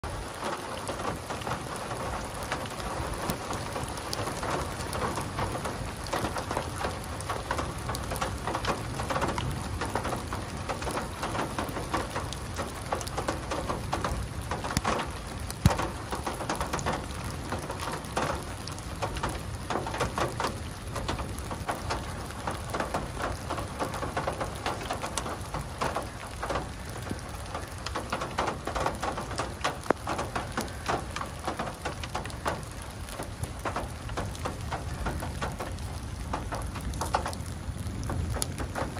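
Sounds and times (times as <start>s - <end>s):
steady rain: 0.0s - 38.9s
drops ticking: 0.4s - 38.9s.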